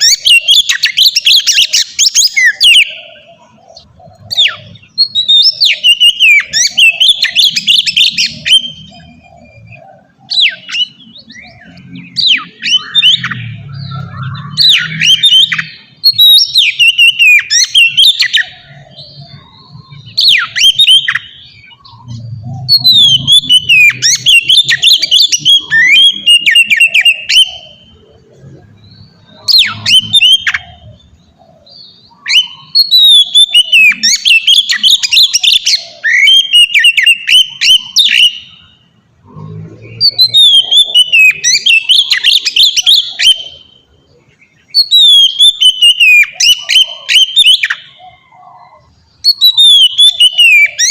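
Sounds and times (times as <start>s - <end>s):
songbird whistling and chirping: 0.0s - 50.9s.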